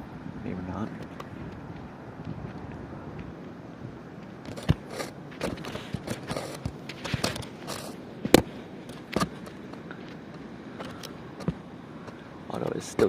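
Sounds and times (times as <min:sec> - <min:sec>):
steady wind noise: 0:00.0 - 0:13.0.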